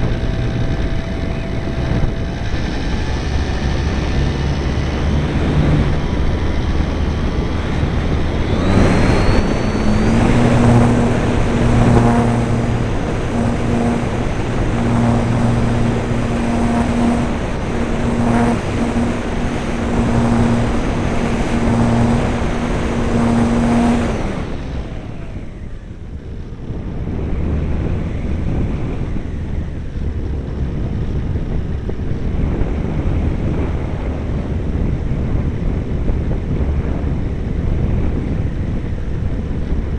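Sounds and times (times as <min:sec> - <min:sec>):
model airplane motor humming: 0:00.0 - 0:39.9
wind rushing past microphone: 0:00.0 - 0:39.9.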